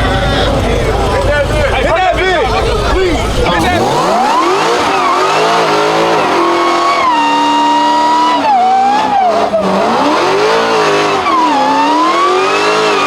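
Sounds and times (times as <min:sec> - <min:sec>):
car engine revving hard: 0:00.0 - 0:13.0
tires squealing: 0:00.0 - 0:13.0.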